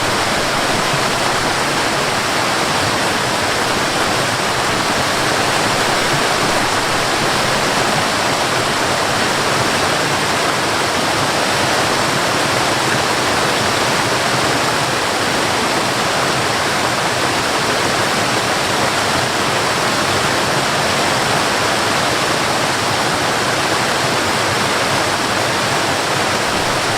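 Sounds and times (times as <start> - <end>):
water rushing: 0.0 - 26.9.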